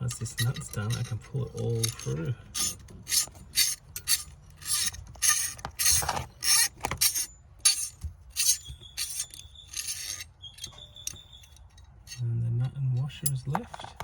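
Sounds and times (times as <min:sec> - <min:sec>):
rasping metal strokes: 0:00.0 - 0:14.0.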